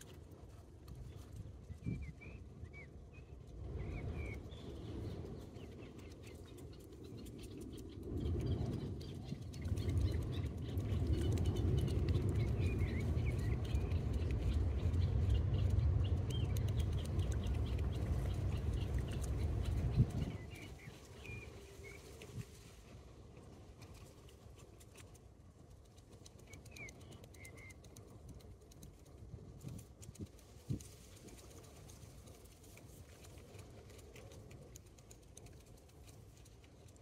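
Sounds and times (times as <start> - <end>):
low steady rumble: 2.8 - 37.0.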